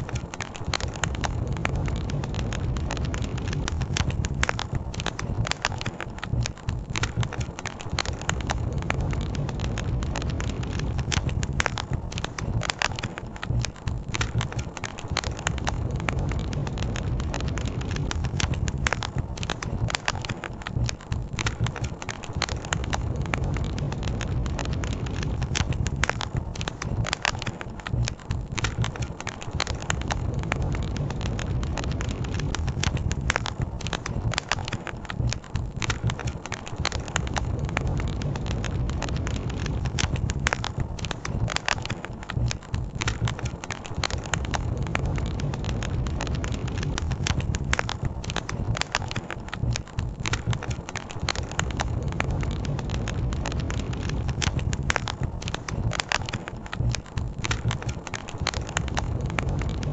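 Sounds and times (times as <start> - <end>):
campfire crackling and popping: 0.0 - 59.9
low rumble: 0.0 - 59.9.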